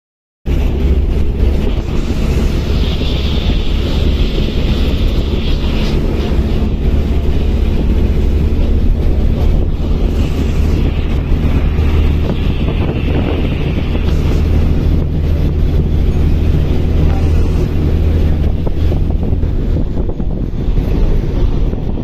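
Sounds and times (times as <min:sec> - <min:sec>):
bus engine drone: 0:00.4 - 0:22.0
road rumble: 0:00.4 - 0:22.0
wind buffeting microphone: 0:00.5 - 0:22.0.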